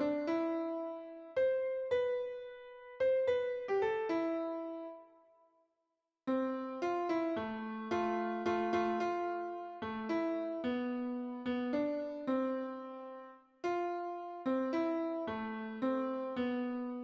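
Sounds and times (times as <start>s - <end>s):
solo piano melody: 0.0s - 5.3s, 6.3s - 17.0s.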